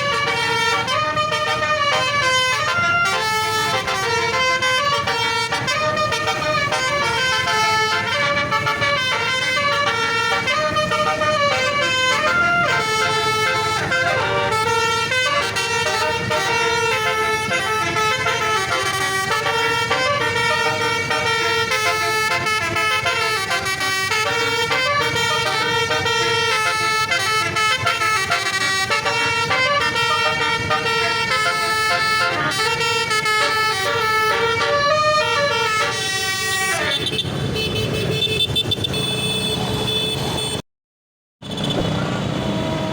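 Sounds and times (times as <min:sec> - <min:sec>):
bus horn playing melody: 0:00.0 - 0:40.6.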